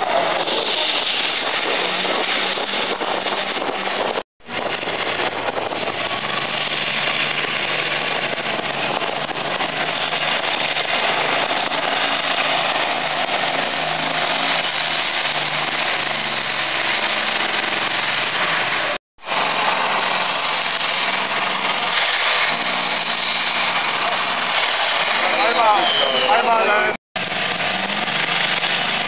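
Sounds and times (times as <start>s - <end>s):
deep tractor engine running: 0.0s - 25.0s, 27.2s - 29.0s
tractor engines running flat out: 0.0s - 29.0s.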